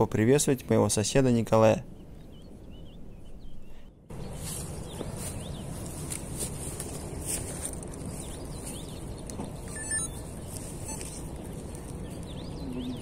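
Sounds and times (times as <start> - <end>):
low outdoor background hum: 0.0 - 13.0
small birds chirping: 0.6 - 13.0.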